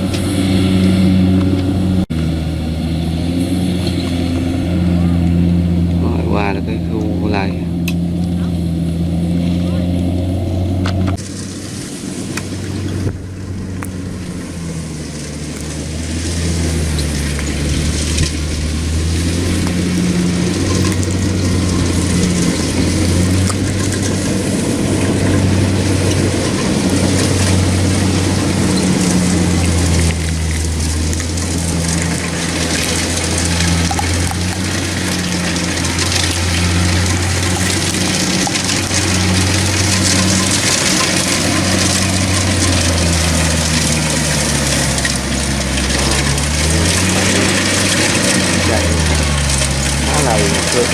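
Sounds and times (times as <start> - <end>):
combine harvester running: 0.0 - 50.9.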